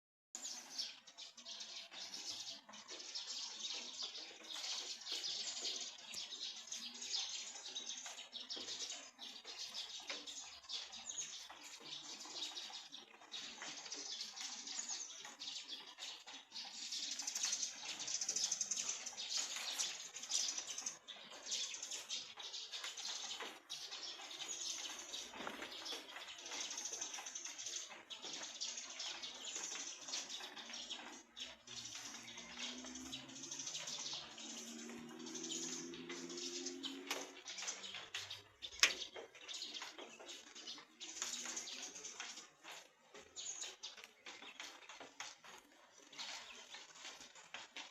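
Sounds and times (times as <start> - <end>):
birds chirping: 0.4 - 47.9
light rain dripping: 1.9 - 47.9.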